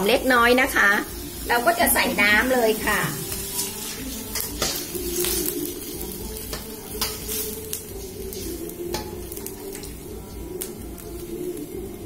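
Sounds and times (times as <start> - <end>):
spatula scraping wok: 0.0 - 10.4
water sizzling in hot wok: 0.0 - 12.0.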